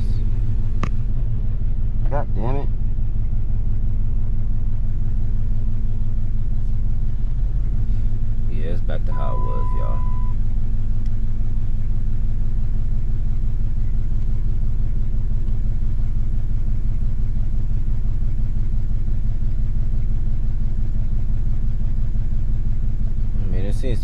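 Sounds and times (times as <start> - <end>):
car engine idling unevenly: 0.0 - 24.0.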